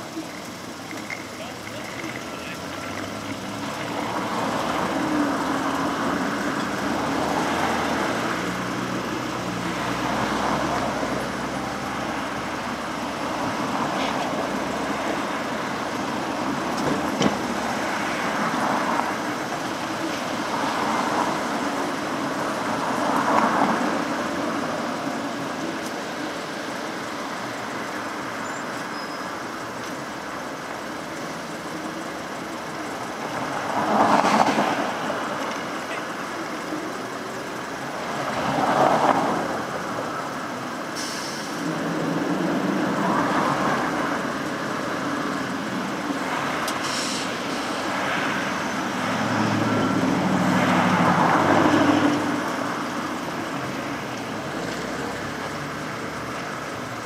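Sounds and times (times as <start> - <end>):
bus driving by: 0.0 - 57.0
cars driving by: 0.0 - 57.0.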